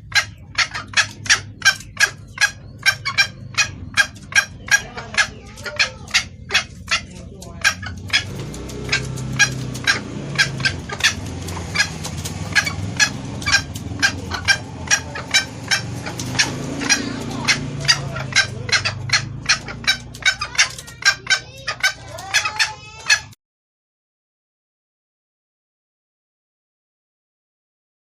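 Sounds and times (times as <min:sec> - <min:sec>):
low steady rumble: 0:00.0 - 0:23.3
hen clucking calls: 0:00.0 - 0:23.4.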